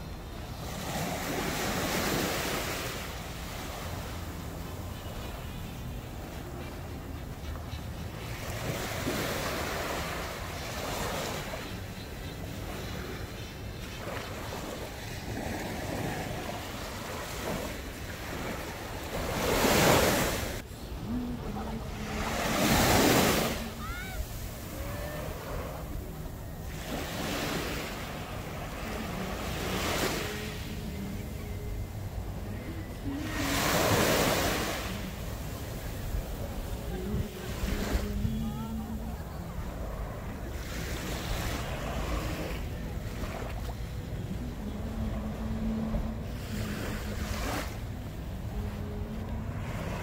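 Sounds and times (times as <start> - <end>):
small waves washing on beach: 0.0 - 50.0.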